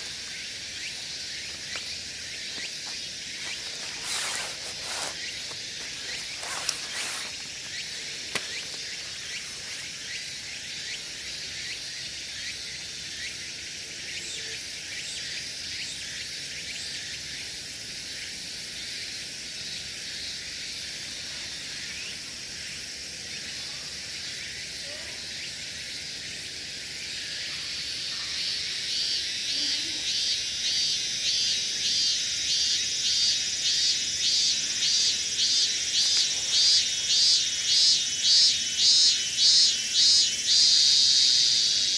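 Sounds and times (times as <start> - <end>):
insects chorus: 0.0 - 41.9
pulsing insect song: 0.0 - 41.9.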